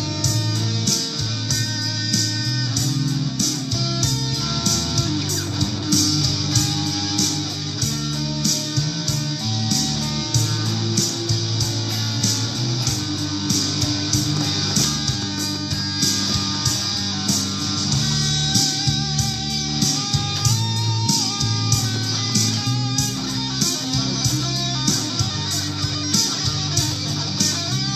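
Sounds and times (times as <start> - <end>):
drums and bass: 0.0 - 27.9
electric guitar lead melody: 0.0 - 27.9.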